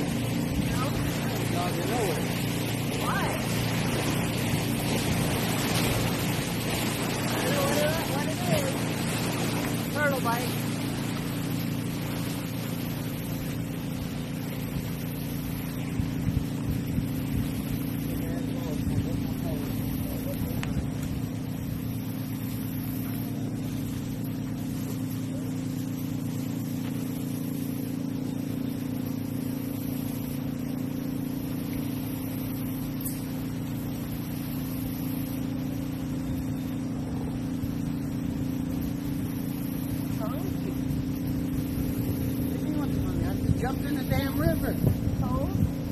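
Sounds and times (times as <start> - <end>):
boat motor running: 0.0 - 45.9.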